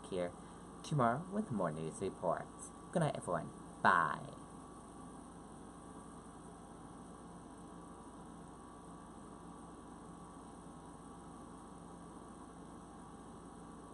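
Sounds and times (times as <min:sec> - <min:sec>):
faint electrical mains hum: 0:00.0 - 0:13.9
low hiss: 0:00.0 - 0:13.9.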